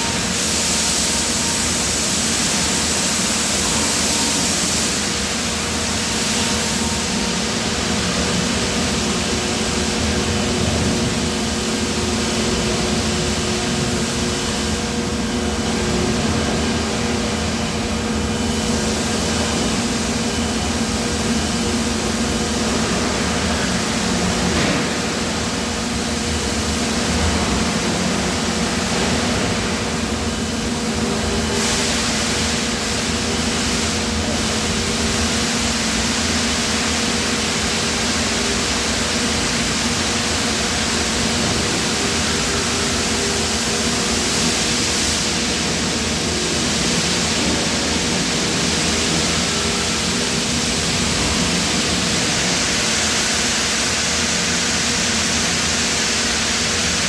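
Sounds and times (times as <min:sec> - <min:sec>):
loud industrial hiss: 0:00.0 - 0:57.0
low machinery hum: 0:00.0 - 0:57.0.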